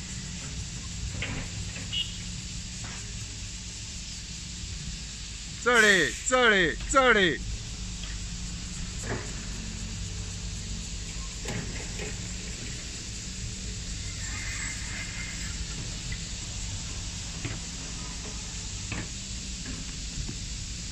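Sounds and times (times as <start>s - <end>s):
outdoor background hiss: 0.0s - 20.9s.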